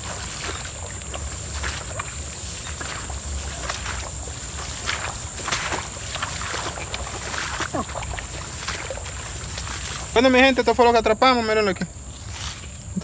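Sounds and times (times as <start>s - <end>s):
footsteps through tall grass: 0.0s - 13.0s.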